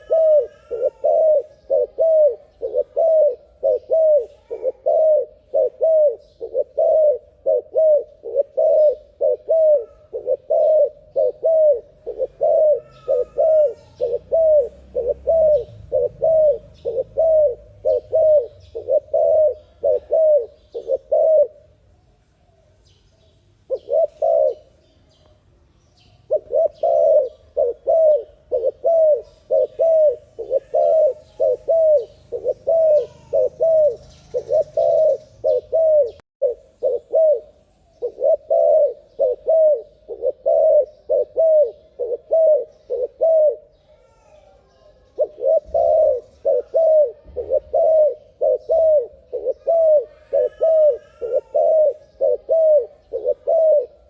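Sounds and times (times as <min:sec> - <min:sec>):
dove cooing: 0:00.0 - 0:21.8, 0:23.7 - 0:24.8, 0:26.2 - 0:54.0
small birds chirping: 0:00.0 - 0:54.0.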